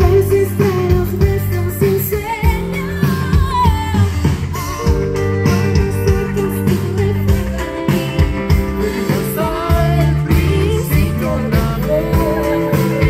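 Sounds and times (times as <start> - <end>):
woman singing: 0.0 - 4.6, 5.6 - 13.0
live band music: 0.0 - 13.0.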